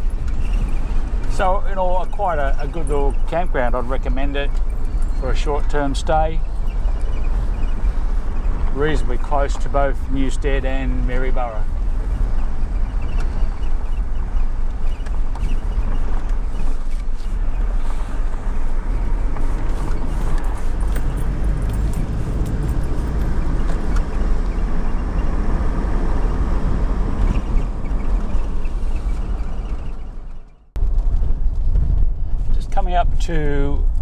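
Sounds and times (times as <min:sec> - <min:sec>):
heavy low rumble: 0:00.0 - 0:34.0
vehicle engine and road noise: 0:00.0 - 0:34.0.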